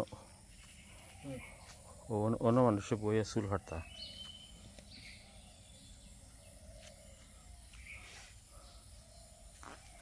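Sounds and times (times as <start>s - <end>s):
faint bird chirps: 0.0s - 10.0s
insects humming: 0.0s - 10.0s.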